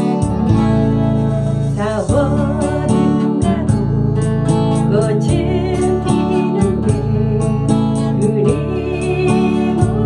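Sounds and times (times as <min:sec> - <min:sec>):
acoustic guitar strumming: 0:00.0 - 0:10.0
woman singing: 0:01.3 - 0:10.0.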